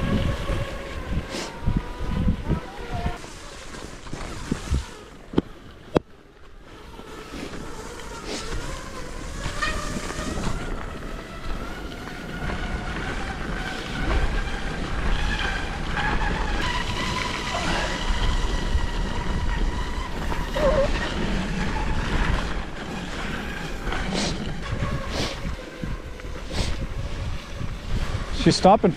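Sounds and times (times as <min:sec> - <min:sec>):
skis gliding over snow: 0:00.0 - 0:28.9
wind rumble on microphone: 0:00.0 - 0:28.9.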